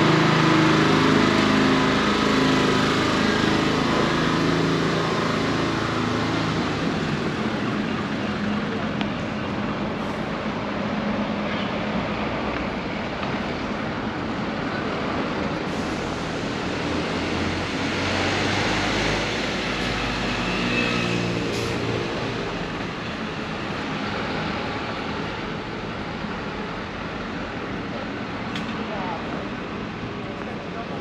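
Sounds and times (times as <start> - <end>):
city street traffic: 0.0 - 31.0
passing vehicle engine hum: 0.0 - 31.0.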